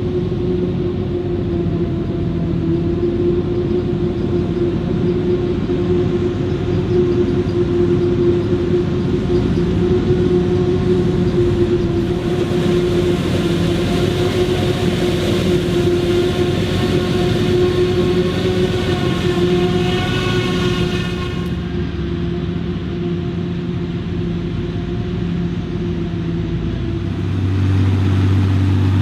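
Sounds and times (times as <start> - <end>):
harvester engine running: 0.0 - 29.0
higher whining tone: 0.0 - 29.0
machine whine: 0.0 - 29.0.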